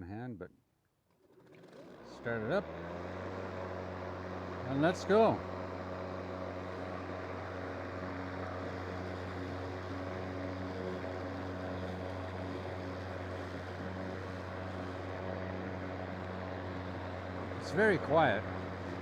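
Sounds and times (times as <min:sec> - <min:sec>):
electric lawn mower humming: 0:01.1 - 0:19.0.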